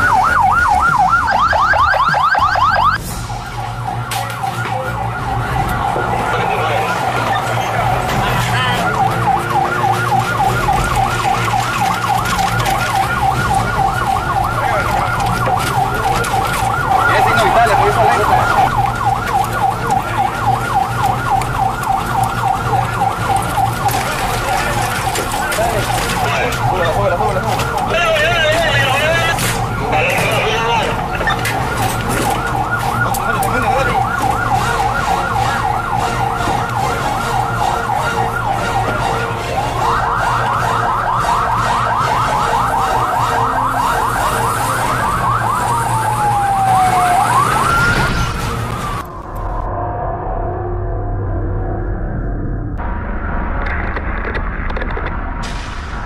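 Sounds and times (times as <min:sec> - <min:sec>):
ambulance siren yelping: 0:00.0 - 0:49.8.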